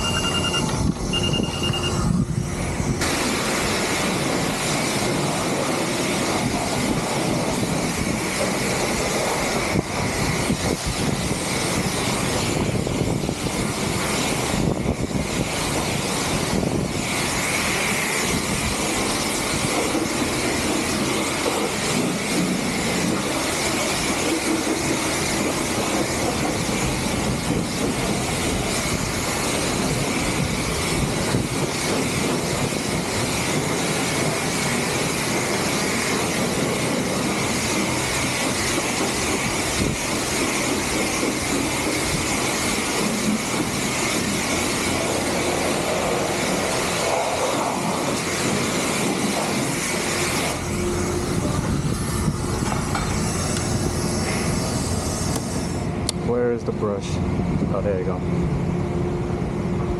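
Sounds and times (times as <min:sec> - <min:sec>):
vacuum cleaner running: 0:00.0 - 0:56.2.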